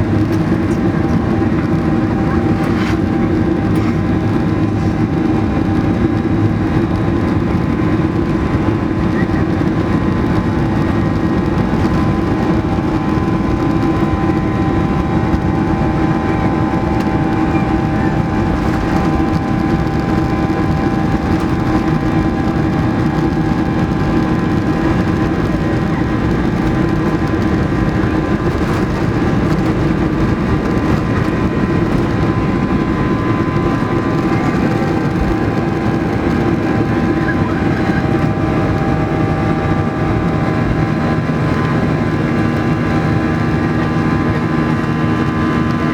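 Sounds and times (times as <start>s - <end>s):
jet engines droning: 0.0s - 45.9s.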